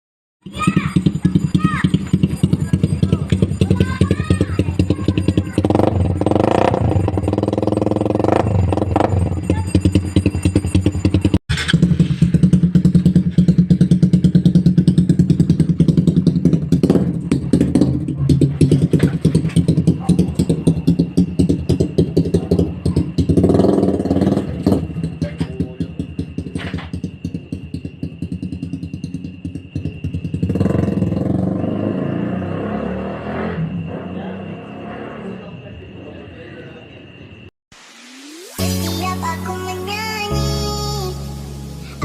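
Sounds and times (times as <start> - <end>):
motorcycle exhaust revving: 0.4 - 35.6.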